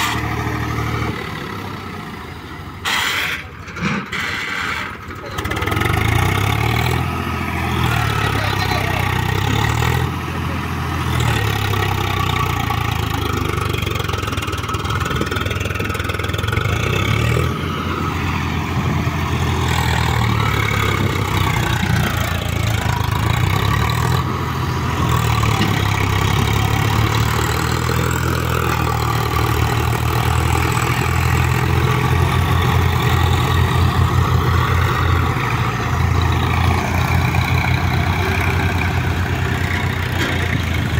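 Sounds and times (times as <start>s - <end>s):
tractor diesel engine chugging: 0.0s - 40.9s.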